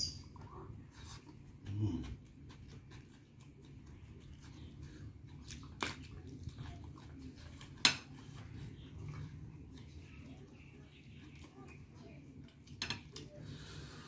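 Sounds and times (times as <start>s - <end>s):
person chewing food: 0.1s - 14.0s.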